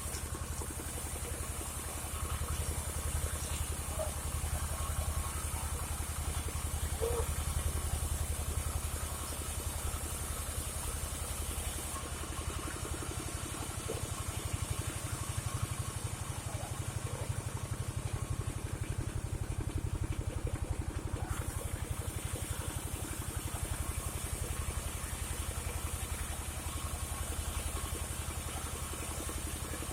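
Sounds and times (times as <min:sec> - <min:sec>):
band sawmill engine running: 0:00.0 - 0:29.9.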